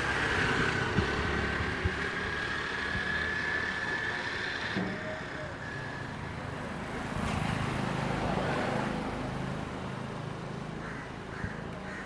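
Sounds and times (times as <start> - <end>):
vehicle passing by: 0.0 - 10.8.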